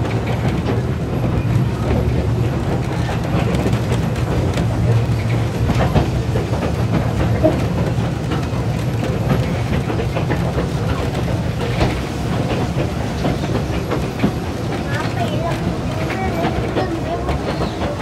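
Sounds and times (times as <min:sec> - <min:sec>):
train car rumbling on track: 0:00.0 - 0:18.0.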